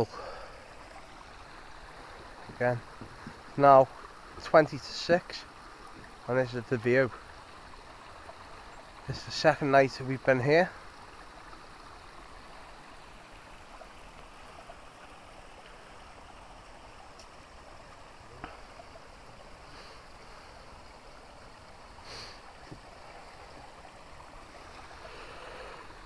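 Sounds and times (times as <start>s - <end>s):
mountain stream running: 0.0s - 26.0s.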